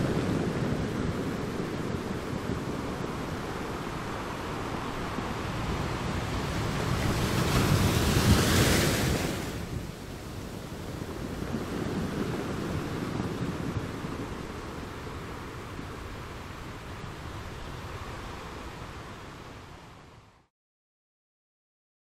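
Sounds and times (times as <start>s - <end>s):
surf washing: 0.0s - 20.4s.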